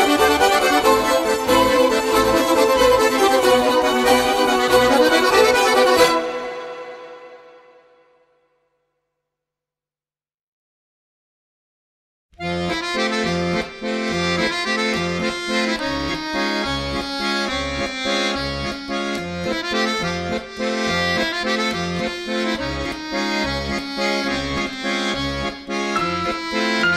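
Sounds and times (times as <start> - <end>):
lively accordion music: 0.0 - 8.0, 12.4 - 26.9.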